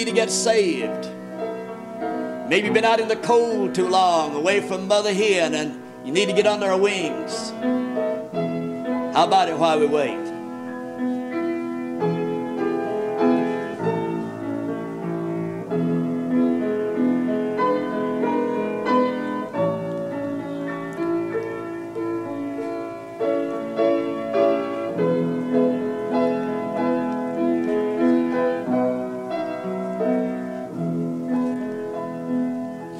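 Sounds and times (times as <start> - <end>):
solo piano: 0.0 - 32.9.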